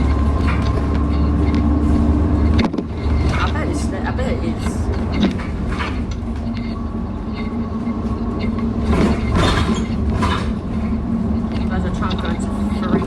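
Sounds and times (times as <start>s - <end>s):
bus body rattling: 0.0s - 13.0s
bus engine droning: 0.0s - 13.0s.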